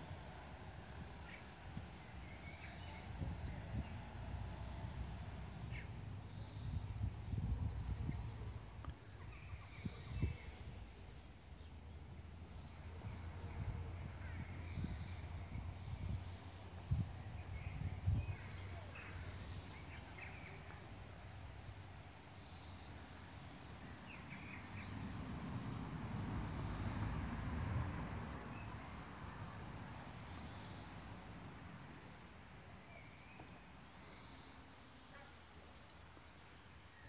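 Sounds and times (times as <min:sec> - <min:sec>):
small birds chirping: 0:00.0 - 0:27.0, 0:28.5 - 0:37.0.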